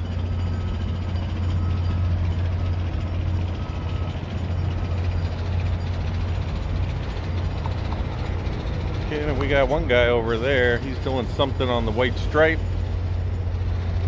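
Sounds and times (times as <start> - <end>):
faint reversing alarm beeping: 0.0 - 14.0
low engine rumble of trucks: 0.0 - 14.0.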